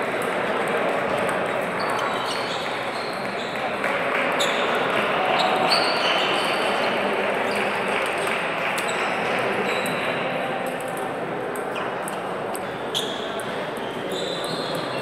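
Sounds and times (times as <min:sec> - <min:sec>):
busy sports hall din: 0:00.0 - 0:15.0.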